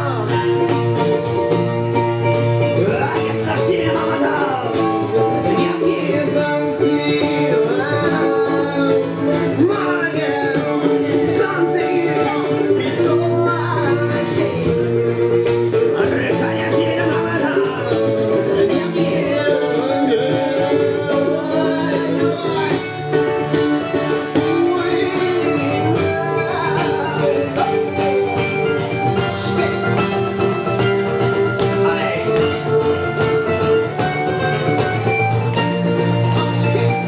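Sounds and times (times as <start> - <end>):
melodic lead line: 0.0 - 37.0
plucked guitars: 0.0 - 37.0.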